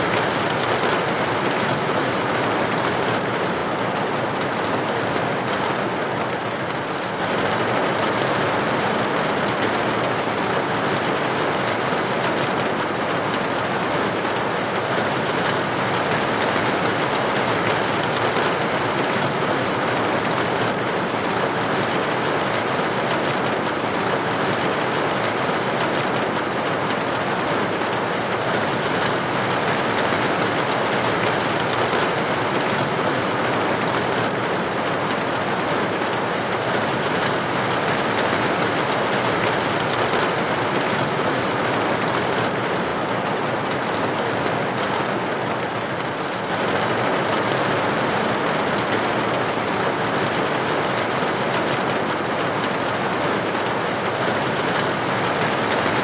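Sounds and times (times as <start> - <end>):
rain pattering on a window: 0.0 - 56.0.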